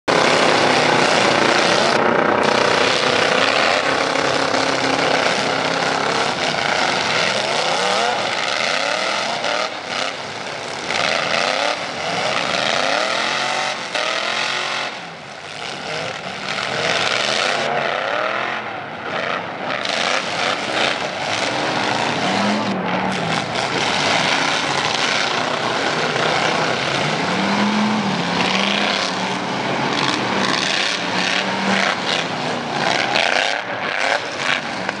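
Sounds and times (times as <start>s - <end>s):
truck engines revving: 0.0s - 35.0s.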